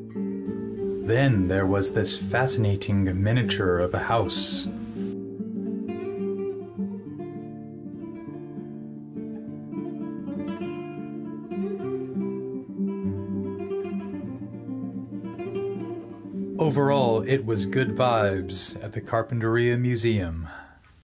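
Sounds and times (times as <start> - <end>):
acoustic guitar strumming latin tune: 0.0 - 19.5.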